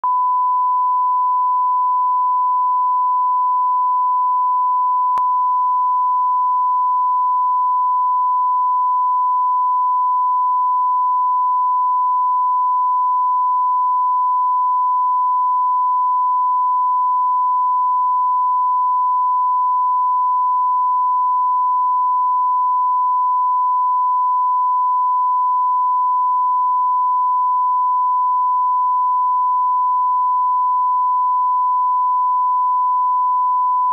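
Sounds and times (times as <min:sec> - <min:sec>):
sine test tone: 0:00.0 - 0:33.9.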